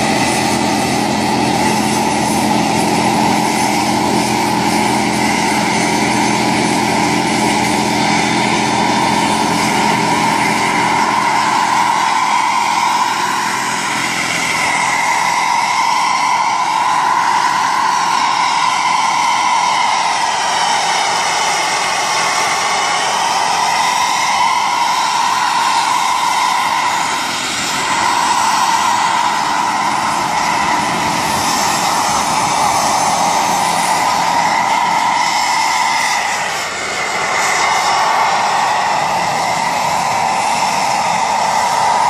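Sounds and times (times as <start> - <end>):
model helicopter motor and rotor whine: 0.0 - 42.0.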